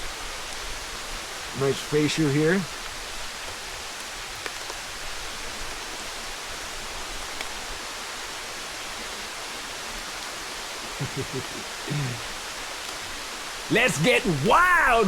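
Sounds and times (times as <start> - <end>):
rainforest ambience rushing: 0.0 - 15.0.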